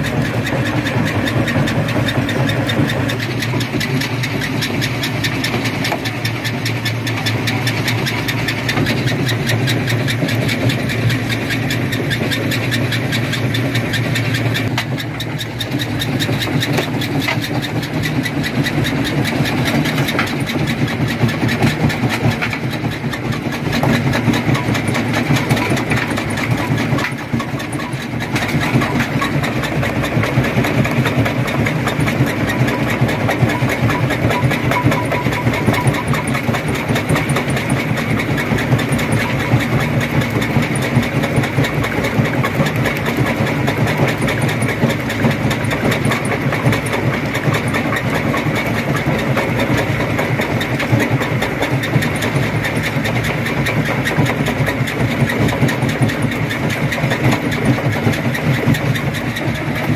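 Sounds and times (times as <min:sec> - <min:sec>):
stone crusher engine hum: 0:00.0 - 0:59.9.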